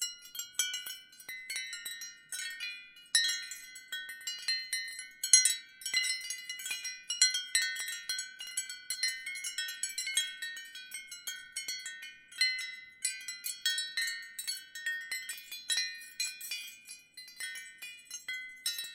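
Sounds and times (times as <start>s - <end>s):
ceramic wind chimes tinkling: 0.0s - 18.9s.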